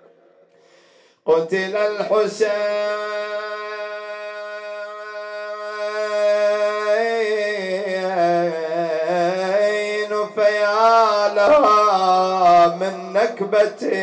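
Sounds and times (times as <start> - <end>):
man chanting: 1.3 - 14.0.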